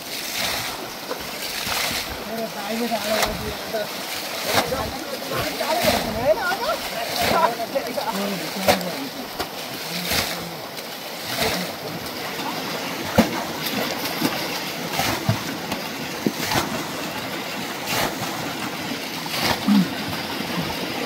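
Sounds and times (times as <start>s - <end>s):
sharp water splashes: 0.0s - 21.0s
water rushing: 0.0s - 21.0s.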